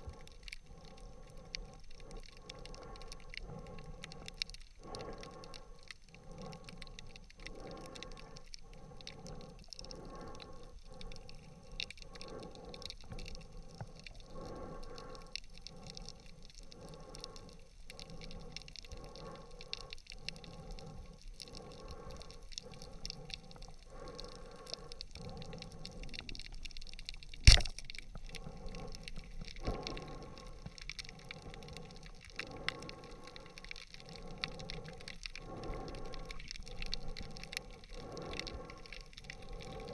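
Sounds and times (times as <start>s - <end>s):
fine underwater crackling: 0.0s - 39.9s.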